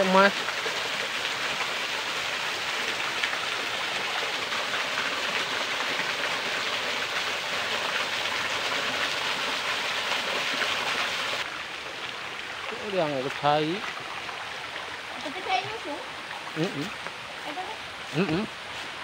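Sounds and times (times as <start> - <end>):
small waterfall splashing: 0.0 - 19.0.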